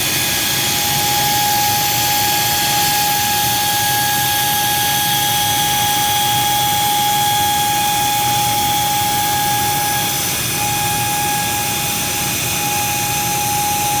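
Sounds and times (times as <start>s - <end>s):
high-pitched machine whine: 0.0s - 14.0s.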